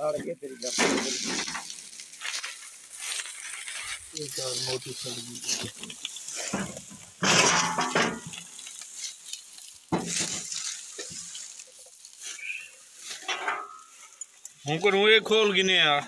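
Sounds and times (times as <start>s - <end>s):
smouldering wiring hissing and crackling: 0.0s - 16.0s.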